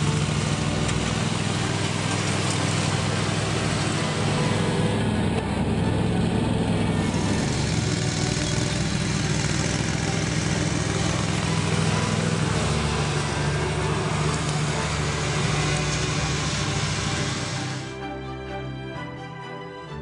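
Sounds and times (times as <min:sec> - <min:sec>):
lawn tractor engine mowing: 0:00.0 - 0:18.0.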